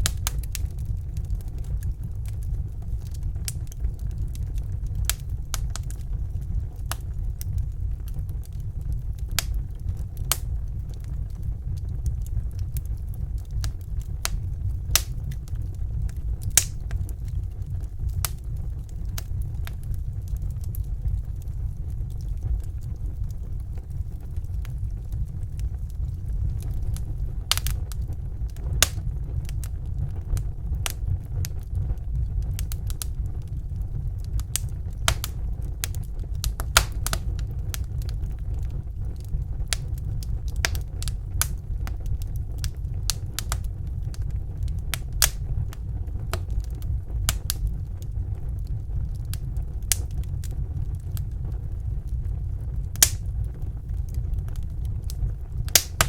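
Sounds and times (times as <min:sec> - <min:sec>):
low rumble: 0:00.0 - 0:56.0
wood fire crackling: 0:00.0 - 0:56.0.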